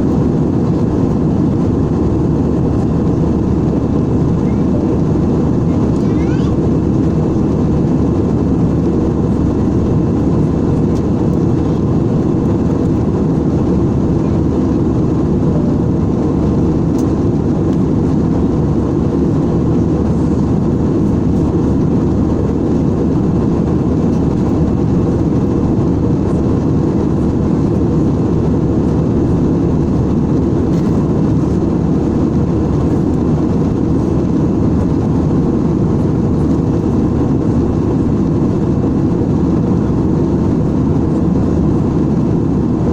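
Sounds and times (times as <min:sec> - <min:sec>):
airliner cabin engine noise: 0:00.0 - 0:42.9.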